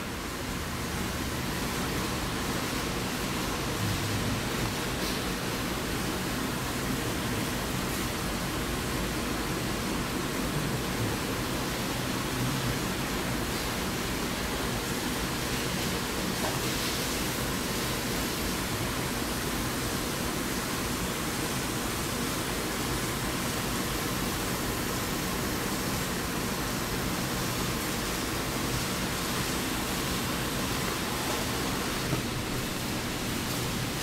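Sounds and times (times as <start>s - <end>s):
steady rushing hiss: 0.0s - 34.0s.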